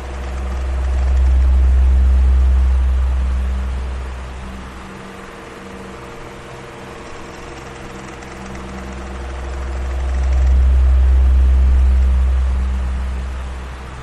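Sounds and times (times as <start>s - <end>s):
deep rumble of moving air: 0.0s - 14.0s
electric fan whooshing: 0.0s - 14.0s
faint motor hum: 0.0s - 14.0s.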